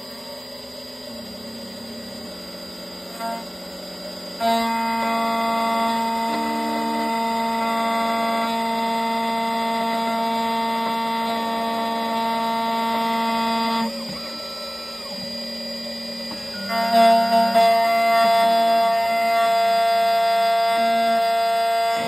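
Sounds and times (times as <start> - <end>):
key cutting machine motor whine: 0.0 - 22.0.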